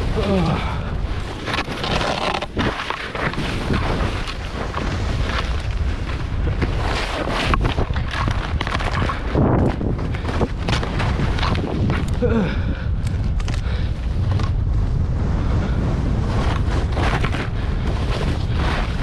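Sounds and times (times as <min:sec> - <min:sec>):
skis scraping over snow: 0:00.0 - 0:12.2, 0:13.7 - 0:19.0
wind buffeting microphone: 0:00.0 - 0:19.0.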